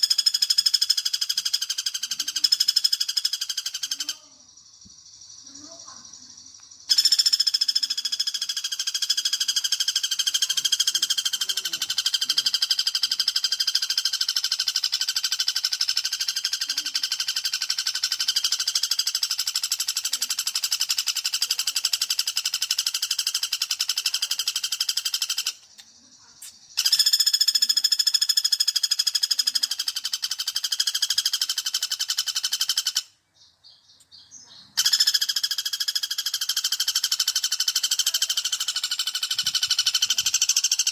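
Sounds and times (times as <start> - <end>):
woodpecker rattling trill: 0.0 - 40.9.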